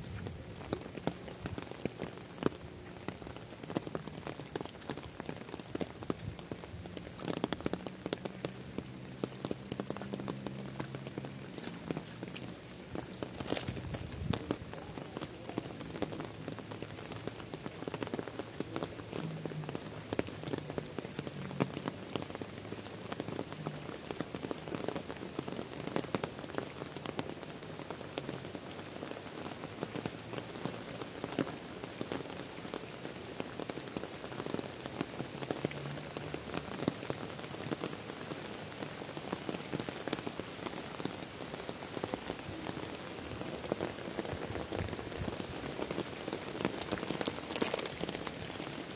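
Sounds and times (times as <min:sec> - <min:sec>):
rain on water and foliage: 0:00.0 - 0:48.9.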